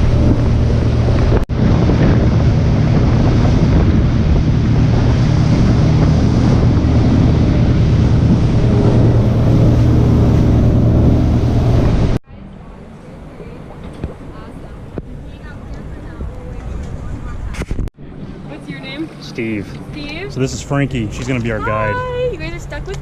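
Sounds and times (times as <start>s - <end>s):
wind buffeting the microphone: 0.0s - 12.2s, 12.8s - 23.0s
low engine drone: 0.0s - 23.0s.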